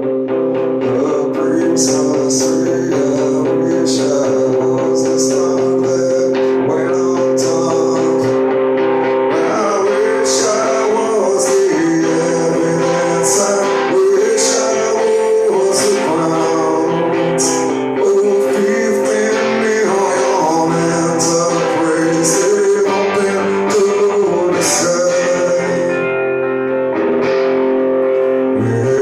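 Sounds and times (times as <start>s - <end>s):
person singing: 0.0s - 29.0s
strummed guitar chords: 0.0s - 29.0s.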